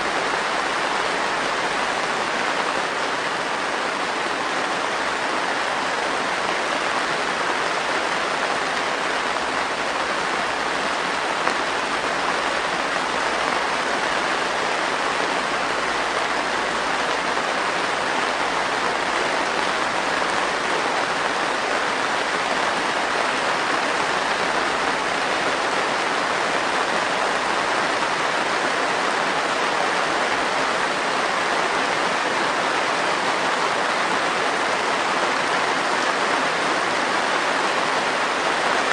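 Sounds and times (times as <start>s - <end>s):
heavy rain on greenhouse roof: 0.0s - 38.9s.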